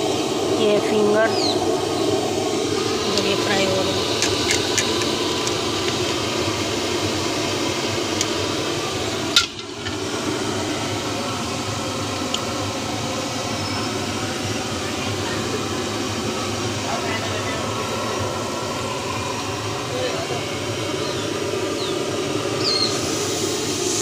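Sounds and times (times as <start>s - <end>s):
hot oil sizzling: 0.0s - 24.0s.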